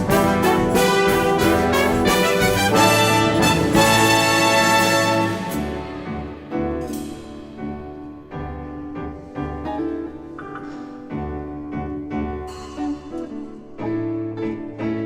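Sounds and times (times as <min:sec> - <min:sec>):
piano playing chords: 0:00.0 - 0:15.0.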